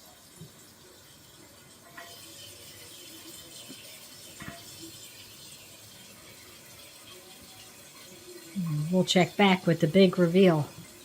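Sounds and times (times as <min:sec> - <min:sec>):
running water hiss: 0:00.0 - 0:11.0.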